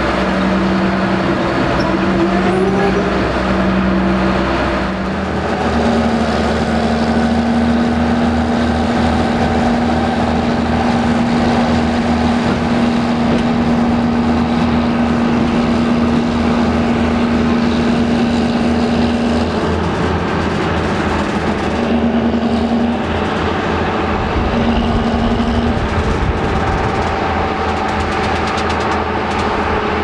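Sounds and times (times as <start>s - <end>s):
diesel locomotive engine running: 0.0s - 30.0s.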